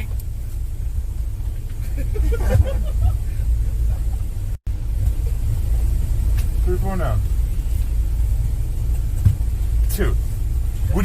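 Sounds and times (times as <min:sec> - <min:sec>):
low road rumble inside vehicle: 0:00.0 - 0:11.0.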